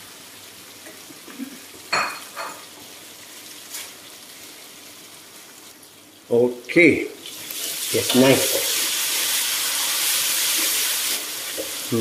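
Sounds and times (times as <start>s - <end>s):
chili paste sizzling in wok: 0.0s - 6.3s, 7.2s - 12.0s.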